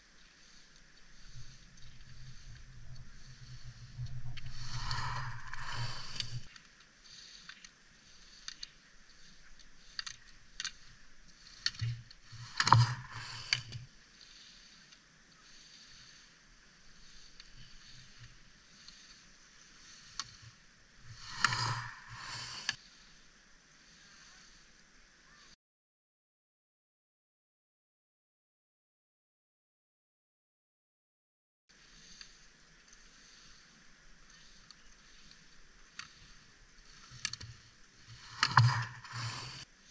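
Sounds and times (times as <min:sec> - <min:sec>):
skis scraping on snow: 0:00.0 - 0:23.2, 0:23.8 - 0:25.5, 0:31.7 - 0:39.9.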